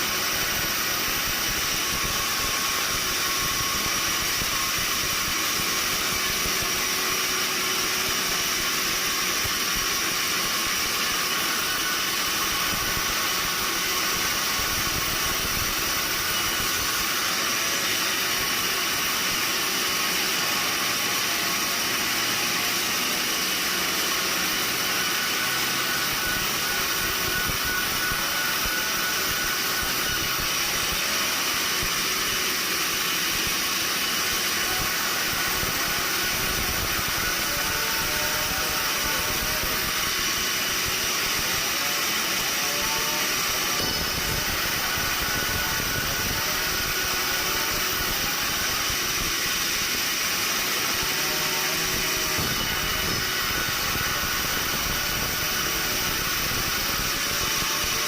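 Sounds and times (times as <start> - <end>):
sawmill machinery hissing: 0.0 - 58.0.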